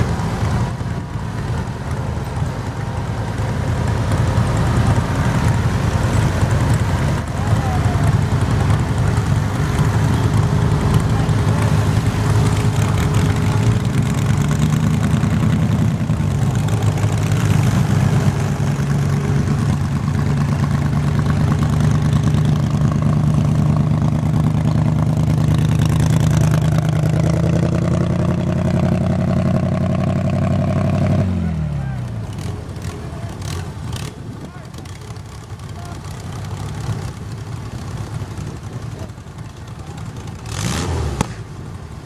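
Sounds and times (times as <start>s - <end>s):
garden tractor engine: 0.0s - 42.0s.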